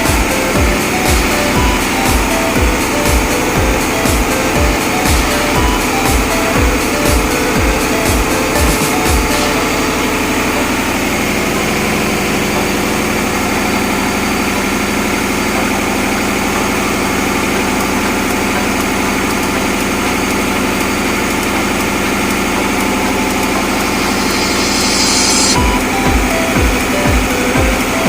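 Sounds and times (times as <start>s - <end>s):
engine-room machinery drone: 0.0s - 28.0s.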